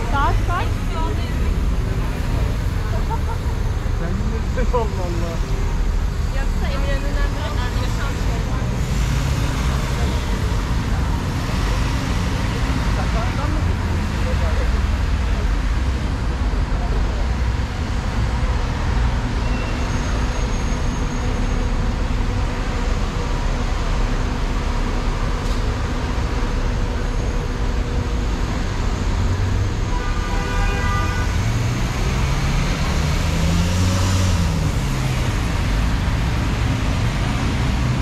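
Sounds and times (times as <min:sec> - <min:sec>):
city street traffic rumble: 0:00.0 - 0:38.0.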